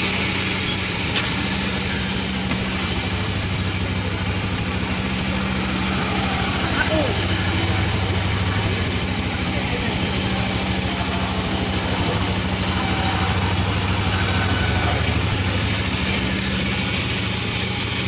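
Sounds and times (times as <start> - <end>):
sawmill engine humming: 0.0 - 18.0.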